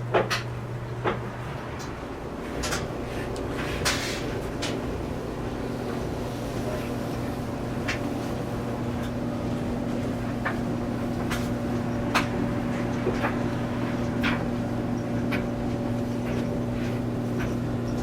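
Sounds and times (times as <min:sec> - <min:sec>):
boiler room equipment humming: 0:00.0 - 0:18.0.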